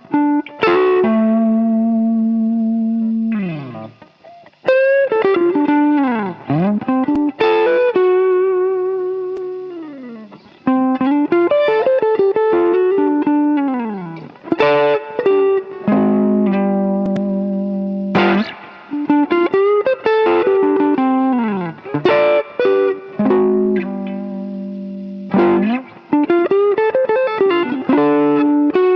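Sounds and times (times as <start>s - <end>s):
electric guitar playing blues: 0.0s - 28.9s.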